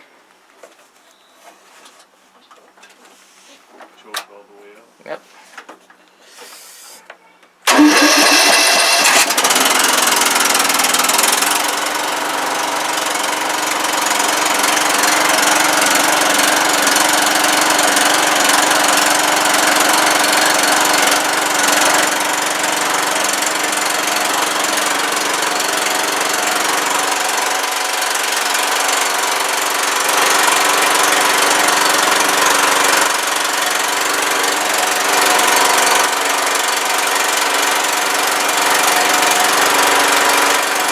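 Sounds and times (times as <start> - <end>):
lawnmower engine starting and running: 7.7 - 40.9.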